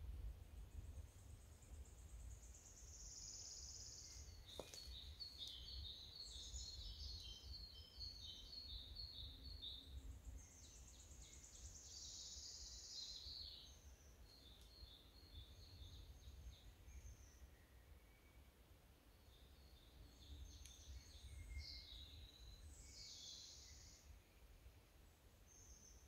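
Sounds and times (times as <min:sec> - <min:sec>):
songbirds trilling and chirping: 0:00.5 - 0:26.0.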